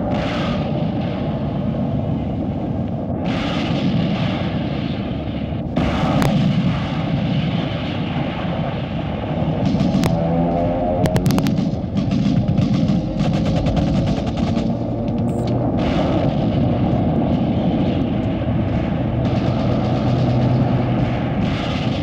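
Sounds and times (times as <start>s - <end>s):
artillery fire and explosions: 0.0s - 22.0s
sharp crack: 0.0s - 22.0s.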